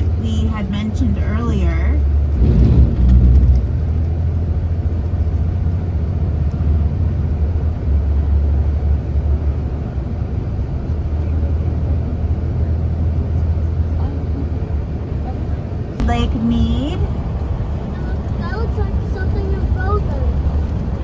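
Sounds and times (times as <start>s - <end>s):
car road noise from inside: 0.0s - 21.0s.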